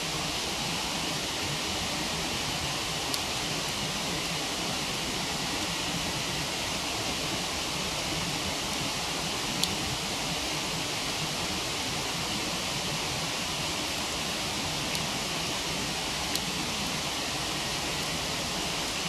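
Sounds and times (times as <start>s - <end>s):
campfire crackle: 0.2s - 19.0s.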